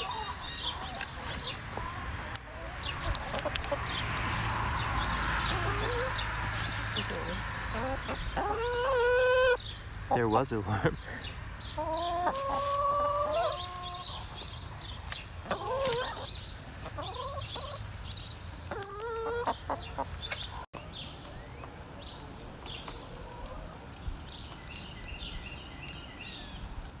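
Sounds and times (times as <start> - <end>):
hens clucking: 0.0 - 20.7, 22.3 - 24.0.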